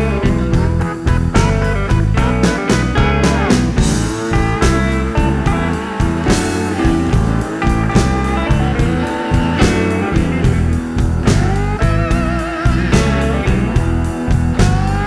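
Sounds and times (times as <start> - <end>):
bass: 0.0 - 15.0
drums steady beat: 0.0 - 15.0
electric slide guitar: 0.0 - 15.0.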